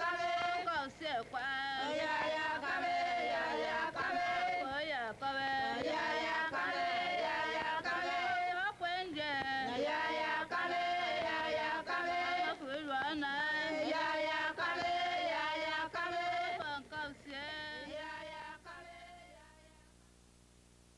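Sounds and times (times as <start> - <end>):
voices singing a song: 0.0 - 19.9.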